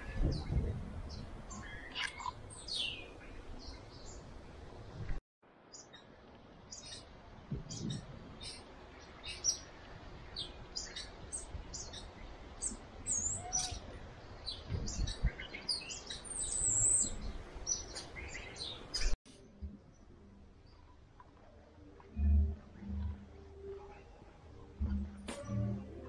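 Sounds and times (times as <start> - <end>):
small birds chirping: 0.0 - 5.1, 5.7 - 25.9.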